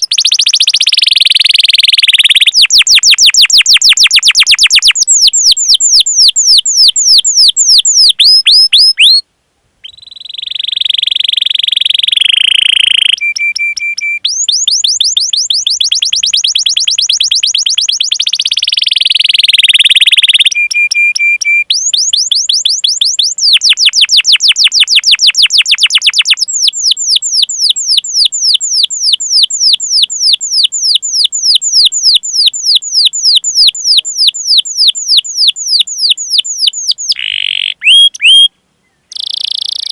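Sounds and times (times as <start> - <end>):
canary singing: 0.0 - 9.2, 9.8 - 38.5, 39.1 - 39.9.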